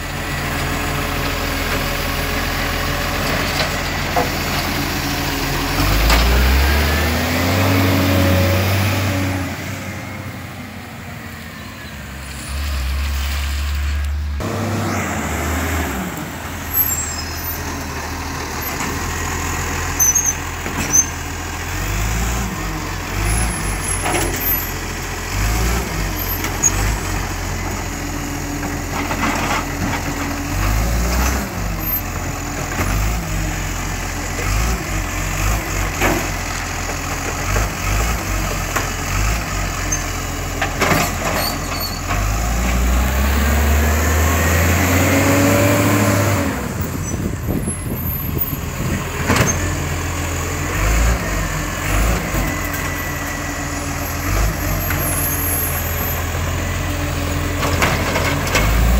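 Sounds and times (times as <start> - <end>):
garbage truck diesel engine: 0.0 - 58.9.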